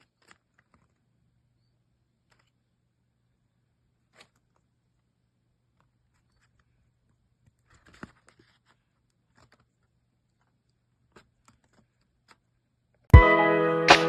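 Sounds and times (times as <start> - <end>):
soft clicks and rustles: 0.0 - 2.7, 3.9 - 13.1.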